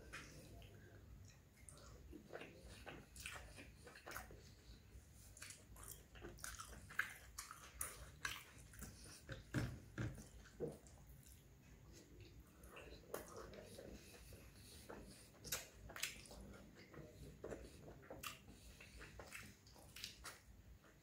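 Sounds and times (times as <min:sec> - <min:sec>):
chewing food: 0:00.0 - 0:21.0.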